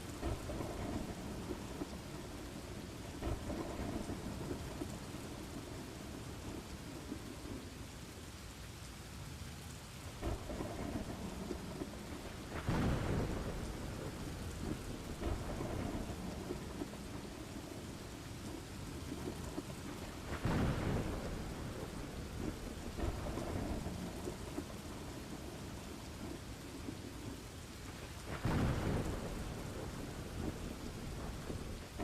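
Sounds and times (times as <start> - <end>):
rolling thunder: 0.0 - 7.6, 10.2 - 32.0
steady rain falling: 0.0 - 32.0.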